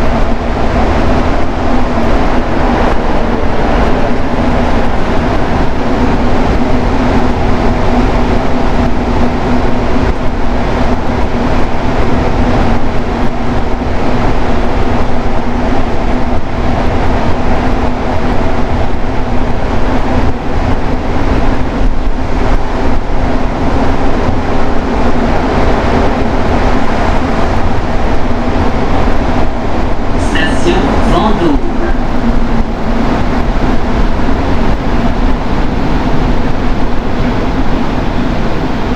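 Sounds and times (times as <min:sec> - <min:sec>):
metro train rumbling: 0:00.0 - 0:38.9.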